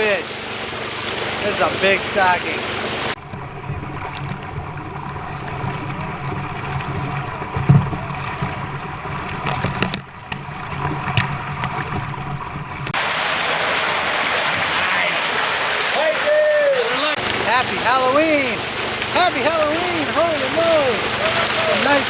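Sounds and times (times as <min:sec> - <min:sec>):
water rushing out of tank: 0:00.0 - 0:09.9, 0:12.9 - 0:22.0
small knocks and splashes: 0:00.0 - 0:16.0, 0:17.1 - 0:22.0.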